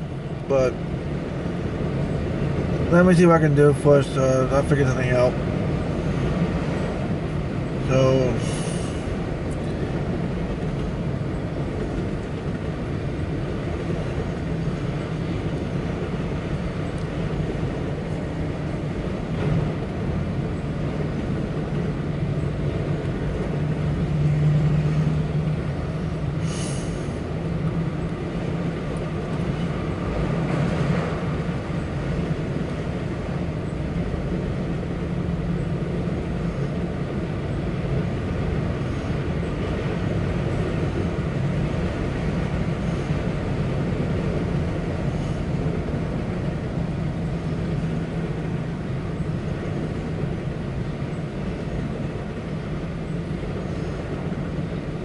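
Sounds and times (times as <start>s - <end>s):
freight car wheels rumbling: 0.0s - 55.0s.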